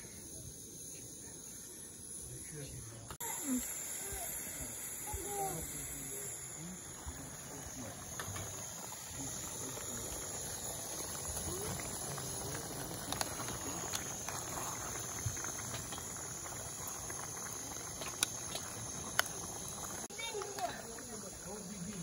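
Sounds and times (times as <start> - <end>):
food simmering with steady hiss: 0.0 - 22.0.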